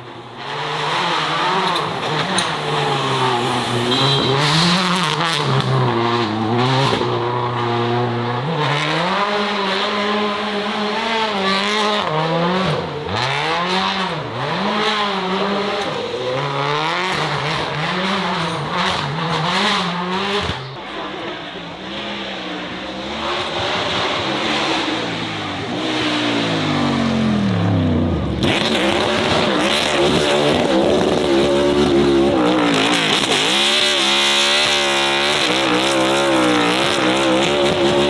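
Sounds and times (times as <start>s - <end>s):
racing car engine revving: 0.0s - 38.0s.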